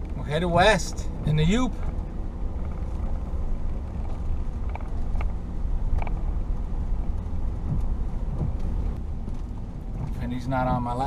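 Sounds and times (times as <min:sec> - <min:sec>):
vehicle rumble on wet road: 0:00.0 - 0:11.0.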